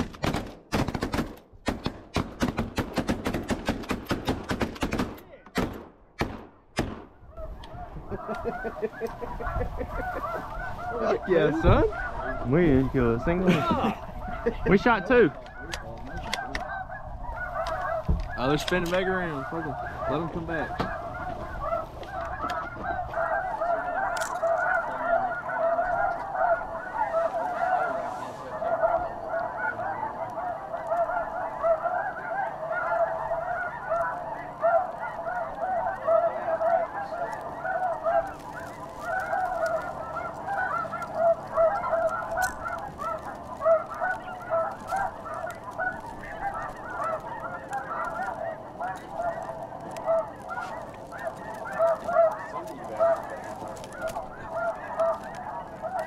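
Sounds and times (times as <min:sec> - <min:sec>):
geese honking: 0:07.2 - 0:56.0.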